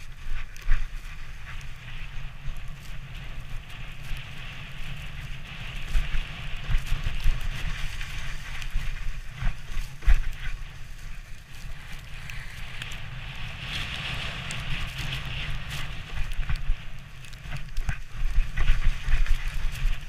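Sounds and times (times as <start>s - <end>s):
sledge runners scraping over snow: 0.0s - 20.0s
wind rumbling on microphone: 0.0s - 20.0s.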